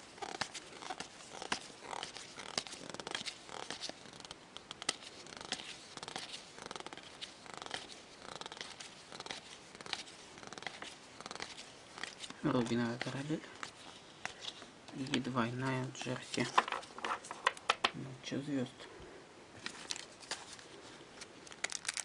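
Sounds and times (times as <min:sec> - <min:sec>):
trading cards rustling: 0:00.2 - 0:18.0, 0:19.6 - 0:22.0.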